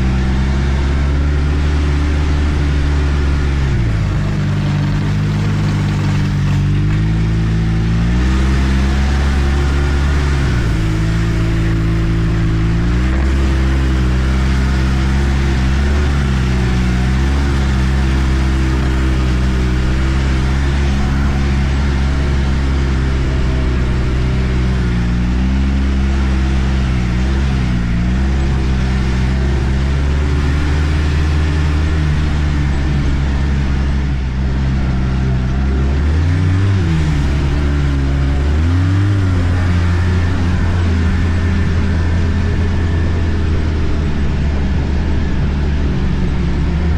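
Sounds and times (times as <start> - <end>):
snowmobile engine running: 0.0 - 46.9.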